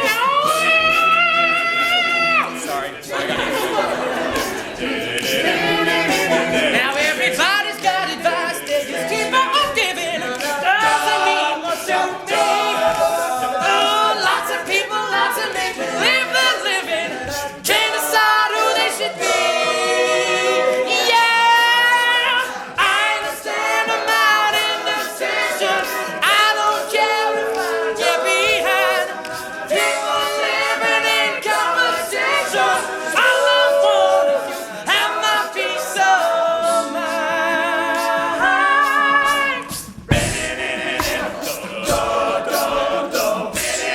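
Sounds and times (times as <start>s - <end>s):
male a cappella group singing: 0.0s - 43.9s.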